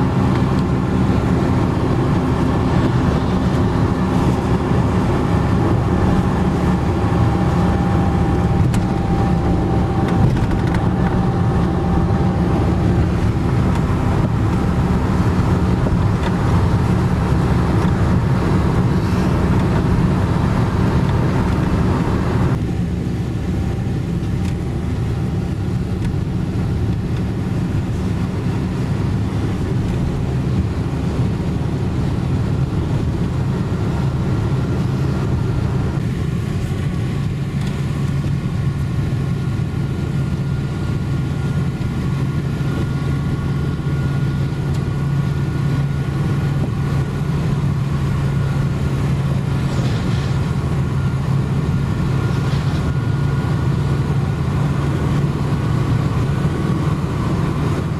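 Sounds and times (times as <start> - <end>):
car road and engine noise: 0.0 - 57.9.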